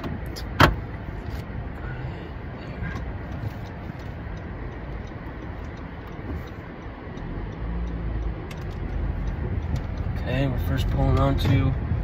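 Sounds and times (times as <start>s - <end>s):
car engine hum: 0.0s - 12.0s
turn signal ticking: 0.0s - 12.0s.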